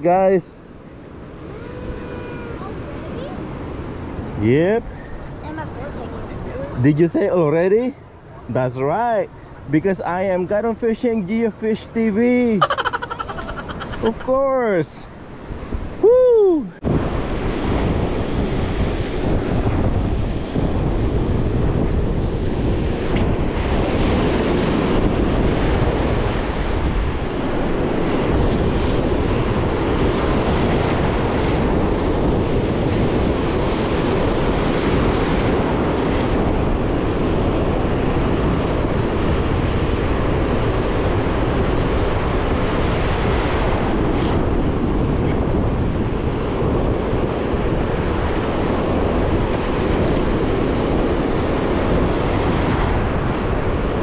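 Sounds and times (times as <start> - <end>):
wind on microphone: 1.1 - 6.9, 15.3 - 54.0.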